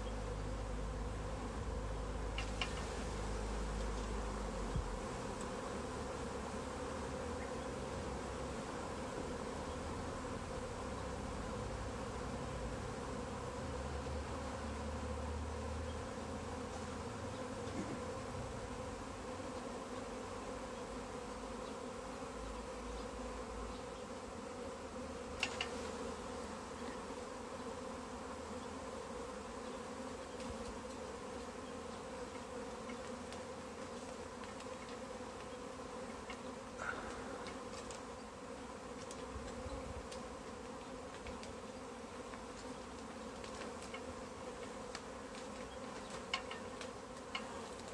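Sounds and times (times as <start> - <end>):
bee swarm buzzing: 0.0 - 47.9.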